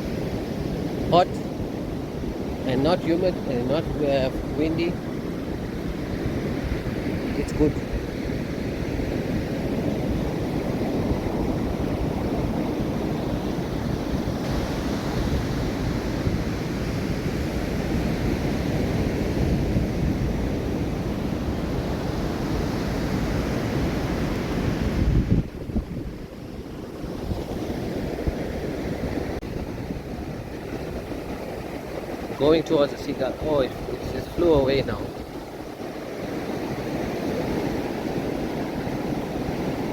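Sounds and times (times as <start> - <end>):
ocean surf washing on beach: 0.0 - 39.9
wind buffeting microphone: 0.0 - 39.9.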